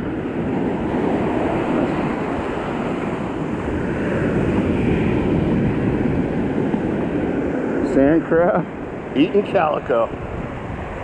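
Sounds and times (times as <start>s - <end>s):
surf breaking: 0.0s - 11.0s
wind buffeting microphone: 0.0s - 11.0s.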